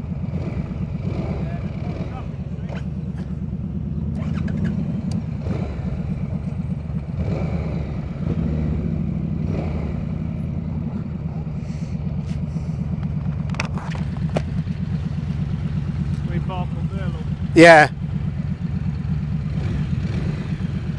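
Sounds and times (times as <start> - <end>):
motorcycle engine throbbing: 0.0 - 20.9.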